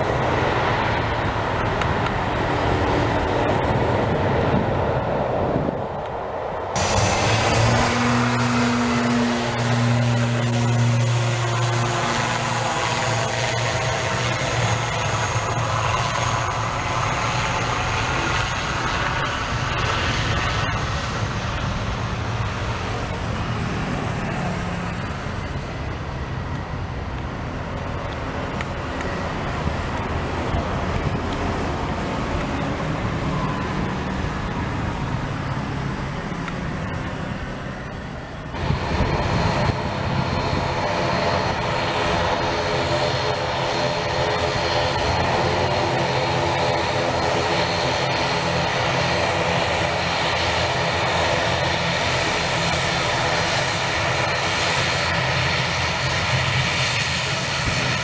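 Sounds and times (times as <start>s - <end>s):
turboprop engines droning: 0.0s - 58.0s.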